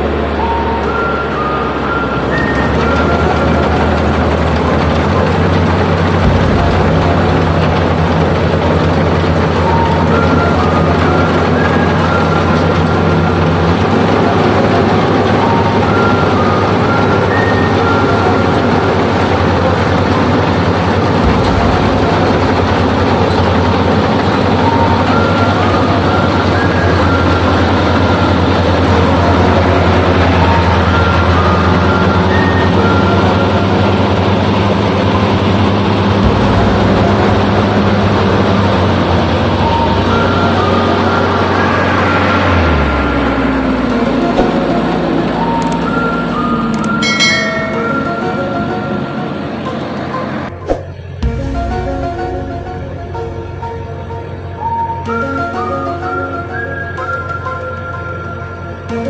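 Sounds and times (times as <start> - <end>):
deep rumble: 0.0 - 48.8, 50.5 - 55.1
combine harvester engine drone: 0.0 - 59.0.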